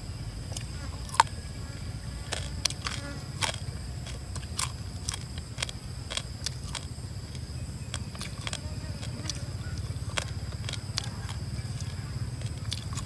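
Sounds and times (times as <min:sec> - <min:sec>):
high-pitched insect drone: 0:00.0 - 0:13.0
crisp food being chewed: 0:00.5 - 0:01.4, 0:02.2 - 0:13.0.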